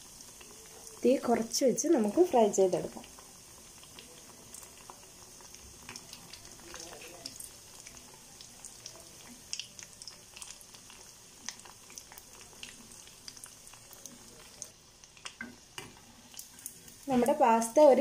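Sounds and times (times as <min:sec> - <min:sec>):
small crackles and pops: 0:00.0 - 0:17.4
food deep-frying in oil: 0:00.0 - 0:18.0.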